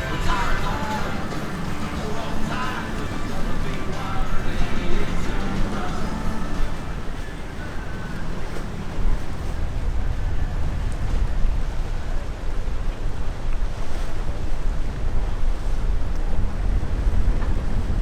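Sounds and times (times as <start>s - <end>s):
boat noise: 0.0s - 18.0s
water noise: 0.0s - 18.0s
wind buffeting microphone: 0.0s - 18.0s.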